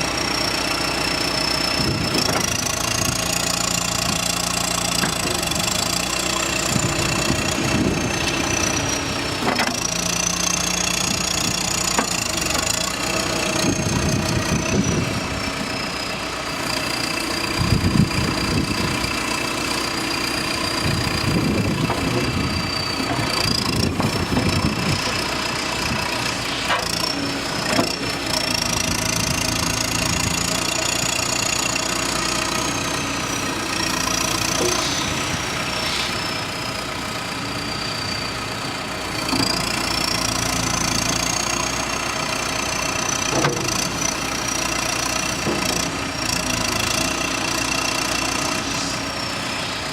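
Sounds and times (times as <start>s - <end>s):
diesel engine running: 0.0s - 49.9s
loud low working noise: 0.0s - 49.9s.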